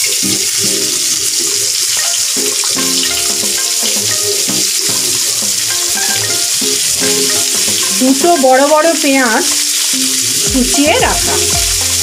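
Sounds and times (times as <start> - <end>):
onion frying in oil: 0.0 - 12.0.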